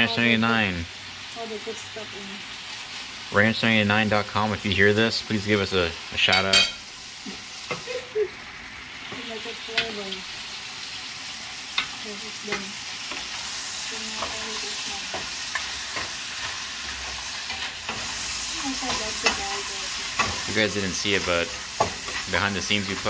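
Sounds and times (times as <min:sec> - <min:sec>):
lobster sizzling in butter: 0:00.0 - 0:23.0.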